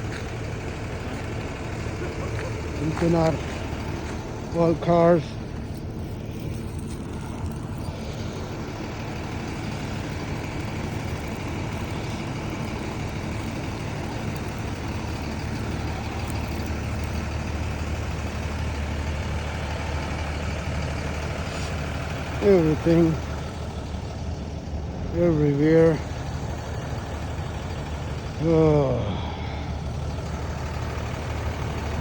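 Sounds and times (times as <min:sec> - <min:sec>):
idling vehicle engines: 0:00.0 - 0:32.0.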